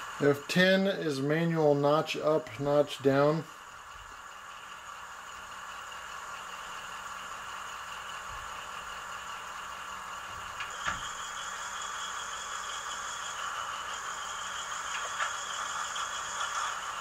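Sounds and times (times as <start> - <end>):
model diesel engine sound from speaker: 0.0 - 17.0.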